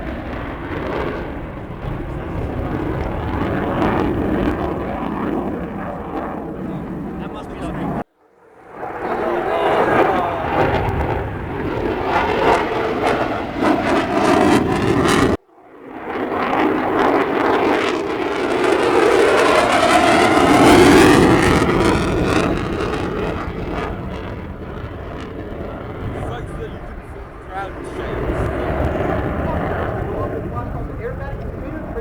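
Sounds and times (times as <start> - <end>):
aircraft engine in flight: 0.0 - 32.0.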